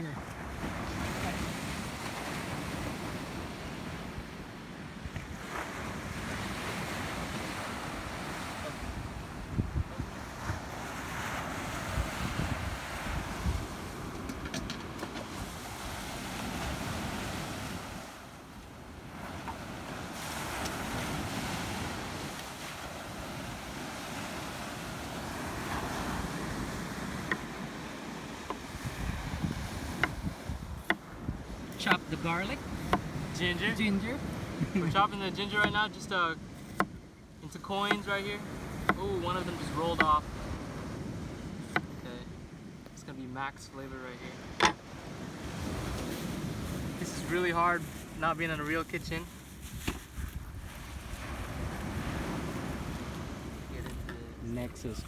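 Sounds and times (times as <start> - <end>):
wind buffeting microphone: 0.0 - 42.9, 44.3 - 48.2, 48.8 - 55.0
ocean surf breaking: 0.0 - 55.0.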